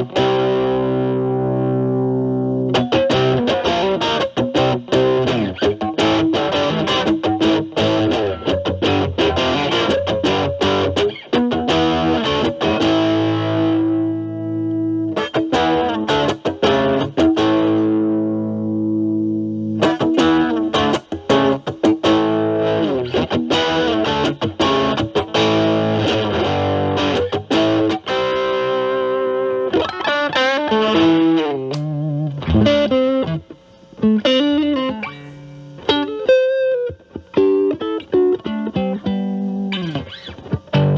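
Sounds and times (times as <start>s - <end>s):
lightly distorted electric guitar: 0.0s - 40.9s.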